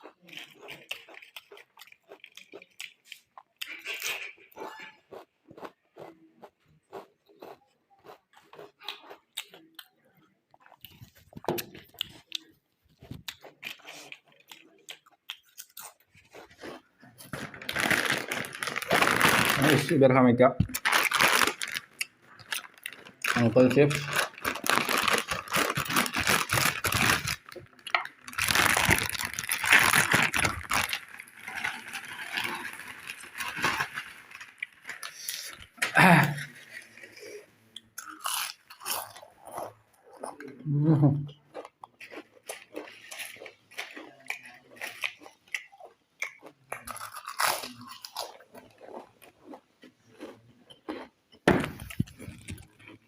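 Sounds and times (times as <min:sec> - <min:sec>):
chips crunching while chewed: 0:00.0 - 0:20.0, 0:20.6 - 0:40.6, 0:41.4 - 0:53.0.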